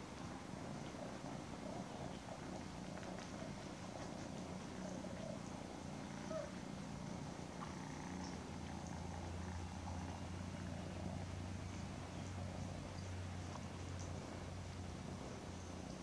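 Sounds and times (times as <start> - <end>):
cat purring: 0.2 - 16.0.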